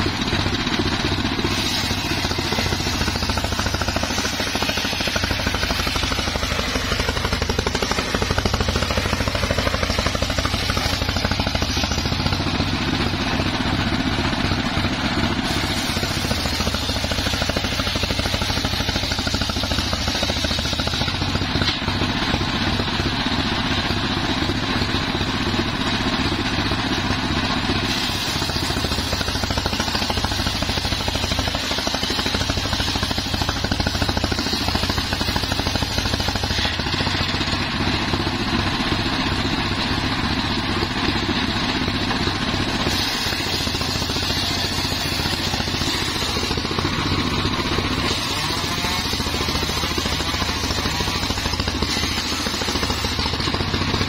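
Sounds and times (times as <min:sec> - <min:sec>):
circular saw ripping log: 0:00.0 - 0:23.1, 0:27.7 - 0:54.0
engine running: 0:00.0 - 0:54.0.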